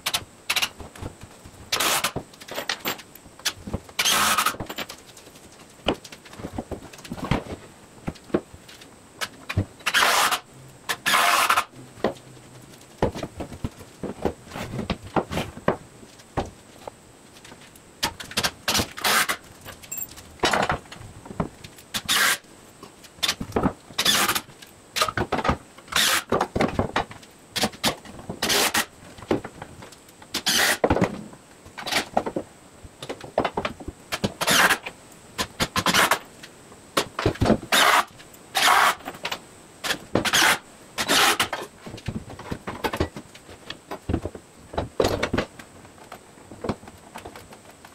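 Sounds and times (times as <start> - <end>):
wood and screws clattering: 0.0 - 12.2, 12.8 - 22.4, 23.1 - 36.2, 37.0 - 47.9.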